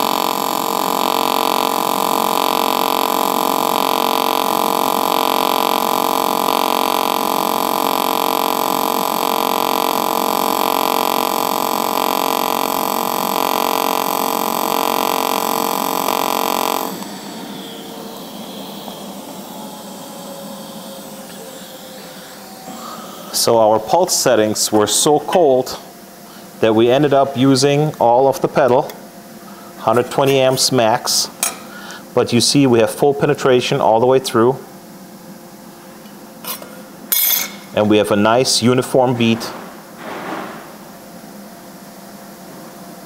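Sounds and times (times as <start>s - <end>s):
welding arc buzzing: 0.0s - 41.8s.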